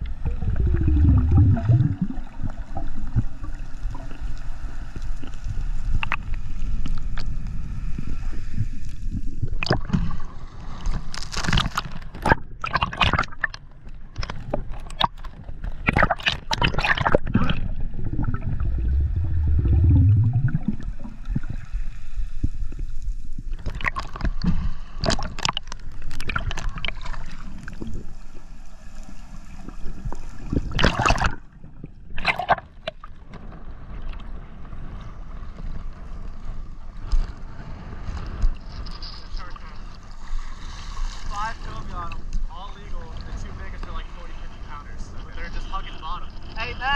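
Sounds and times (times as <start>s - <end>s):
water splashes: 0.0s - 33.3s, 38.6s - 44.8s
sea water sloshing and gurgling: 0.0s - 46.7s.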